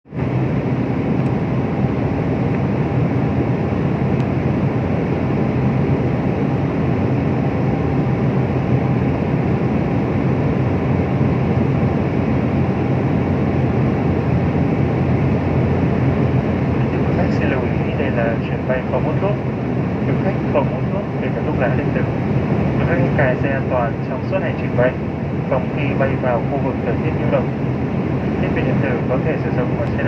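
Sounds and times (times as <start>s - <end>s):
jet engines and rushing air: 0.1s - 30.0s.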